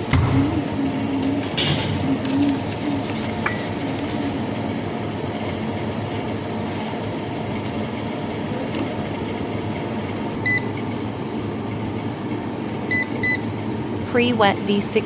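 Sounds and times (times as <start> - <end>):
electric kettle humming: 0.0 - 15.0.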